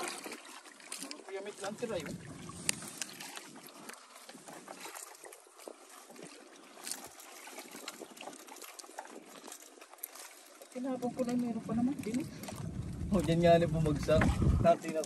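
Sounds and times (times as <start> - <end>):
water lapping around boat: 0.0 - 15.0.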